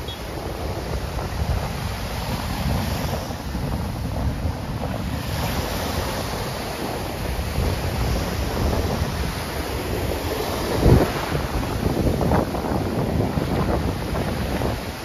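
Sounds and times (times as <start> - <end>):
sea surf breaking on shore: 0.0 - 15.0
wind buffeting microphone: 0.0 - 15.0.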